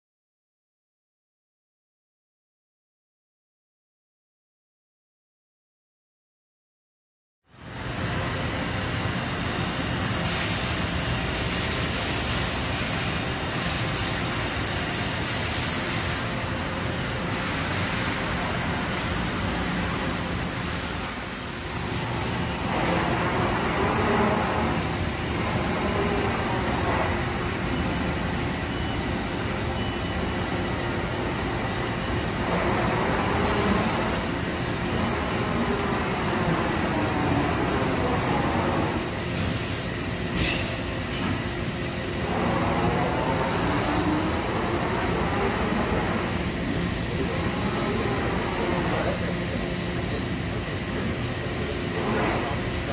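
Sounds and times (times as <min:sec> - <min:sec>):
machine shop rumble and hiss: 0:07.5 - 0:52.9.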